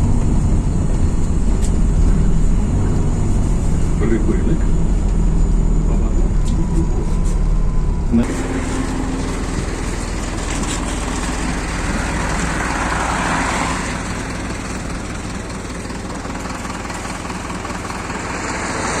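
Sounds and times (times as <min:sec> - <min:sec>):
bus engine droning: 0:00.0 - 0:19.0
road and cabin noise: 0:00.0 - 0:19.0.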